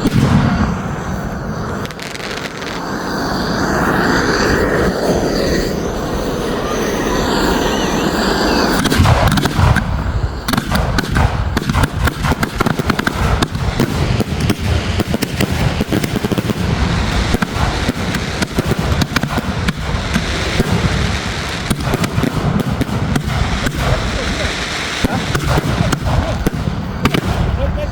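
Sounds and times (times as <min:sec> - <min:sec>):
rapid firework bangs and crackles: 0:00.0 - 0:27.9
steady rushing noise: 0:00.0 - 0:27.9.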